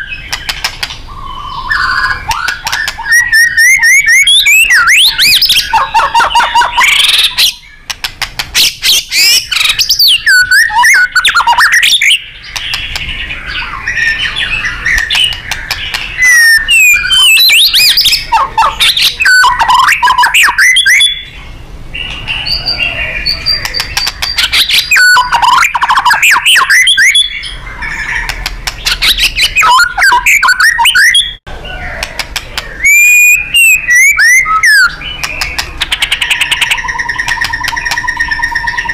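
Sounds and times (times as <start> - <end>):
songbird singing whistles and trills: 0.0 - 8.0, 8.6 - 38.9.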